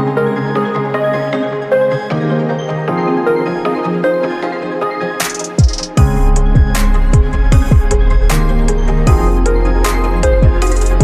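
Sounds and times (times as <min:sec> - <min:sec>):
electronic music with synth: 0:00.0 - 0:11.0.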